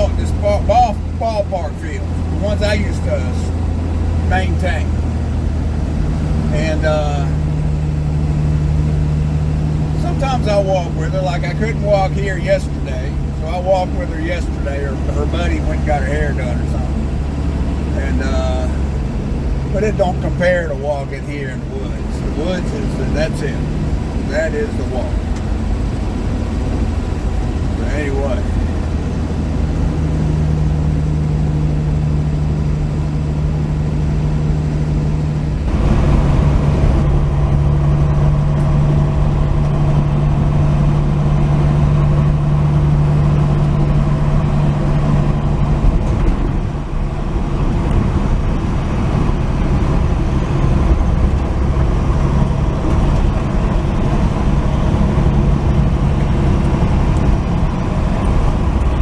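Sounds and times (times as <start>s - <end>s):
road noise: 0.0s - 59.0s
truck engine hum: 0.0s - 59.0s.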